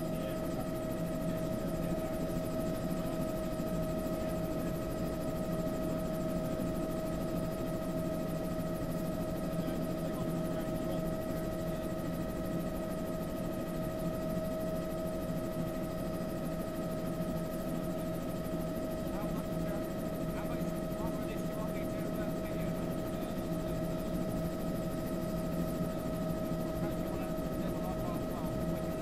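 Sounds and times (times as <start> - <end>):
helicopter turbine and rotor din: 0.0 - 29.0.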